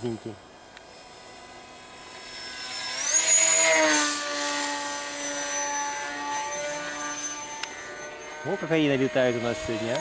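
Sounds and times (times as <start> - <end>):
model airplane motor whining: 0.0 - 10.0.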